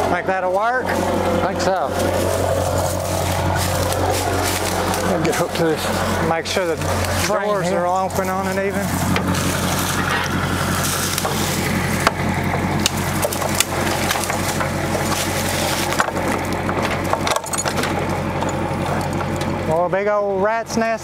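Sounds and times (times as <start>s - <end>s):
vehicle engine idling: 0.0s - 21.0s
dry leaves and twigs crunching: 0.5s - 19.6s.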